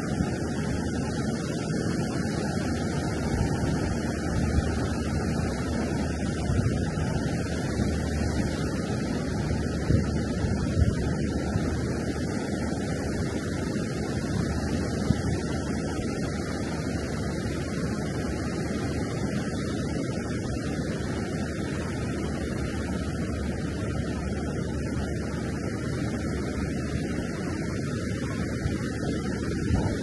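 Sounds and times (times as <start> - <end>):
ocean surf breaking: 0.0 - 30.0
wind on microphone: 0.0 - 30.0.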